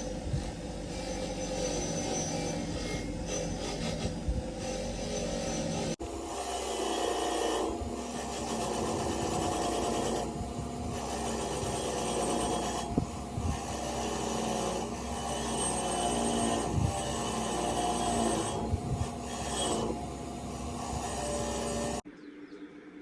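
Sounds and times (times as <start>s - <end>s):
rasping metal rubbing: 0.0s - 22.1s.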